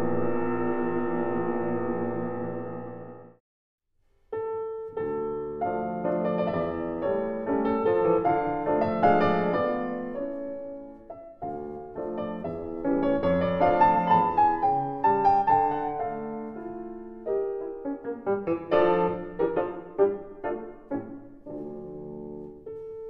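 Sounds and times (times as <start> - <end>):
solo piano piece: 4.3 - 23.0.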